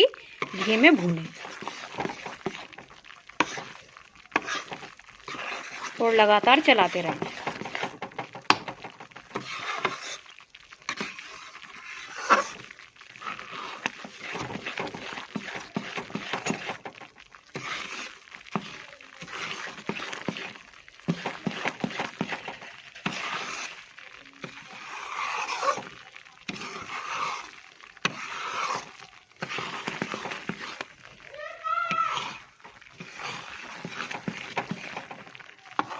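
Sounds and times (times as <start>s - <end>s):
spatula scraping a pan: 0.3s - 35.9s.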